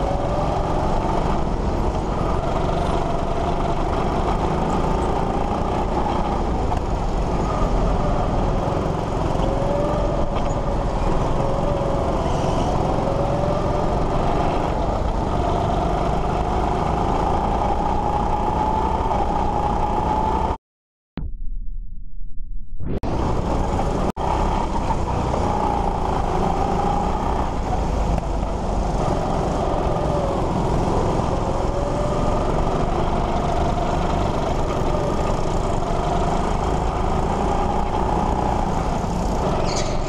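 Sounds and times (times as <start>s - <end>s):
go-kart motor running: 0.0s - 20.6s, 23.1s - 40.0s.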